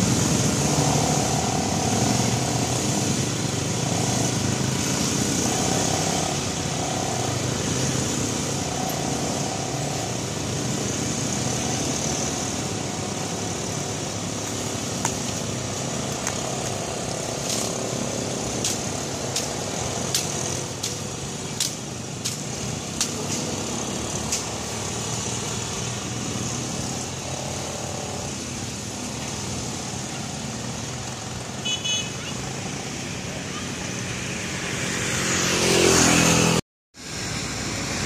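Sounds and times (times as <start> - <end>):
quad bike engines rumbling: 0.0 - 38.0.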